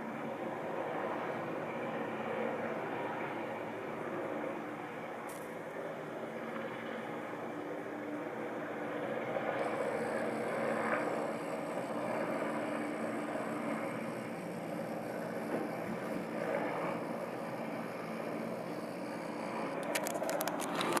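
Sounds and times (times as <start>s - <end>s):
distant helicopter rotor drone: 0.0s - 21.0s.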